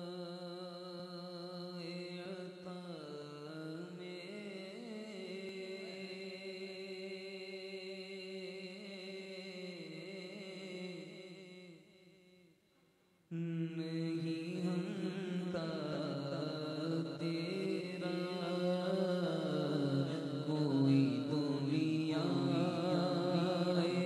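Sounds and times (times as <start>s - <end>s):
man chanting into a microphone: 0.0s - 11.7s, 13.3s - 24.0s.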